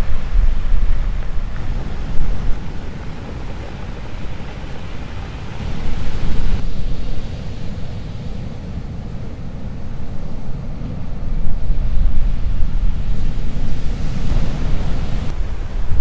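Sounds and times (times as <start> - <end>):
stormy sea surf: 0.0 - 16.0
wave surging in: 0.0 - 16.0
wind buffeting microphone: 0.0 - 16.0.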